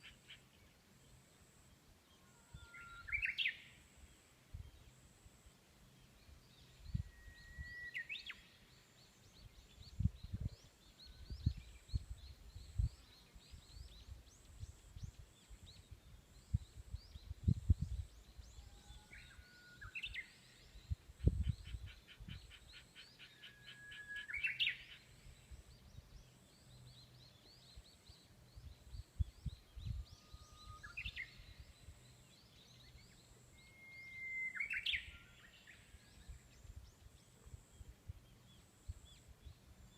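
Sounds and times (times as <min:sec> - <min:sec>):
faint high bird chirping: 0:02.1 - 0:05.0, 0:06.0 - 0:39.9
songbird whistled song: 0:02.2 - 0:03.8, 0:06.1 - 0:39.9.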